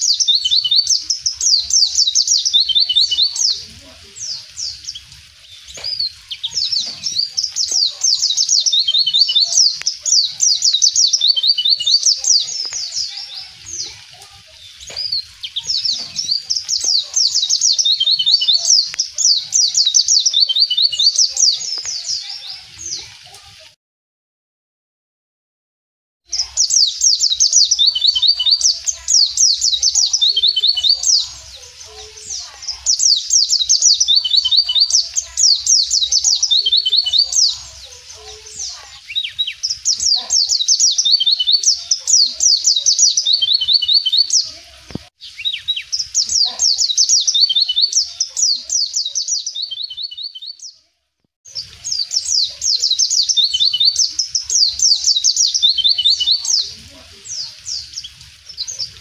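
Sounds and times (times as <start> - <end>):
bird twittering trills: 0.0 - 23.1, 26.3 - 50.8, 51.5 - 59.0.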